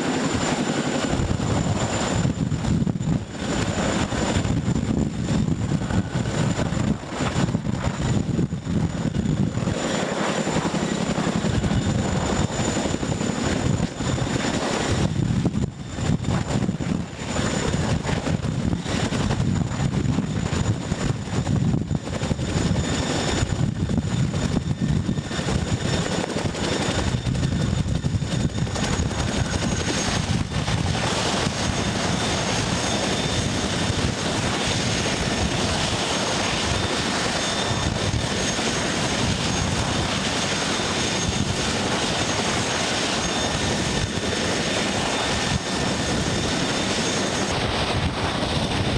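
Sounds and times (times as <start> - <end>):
helicopter rotor blades chopping: 0.0 - 48.9
high turbine whine: 0.0 - 48.9.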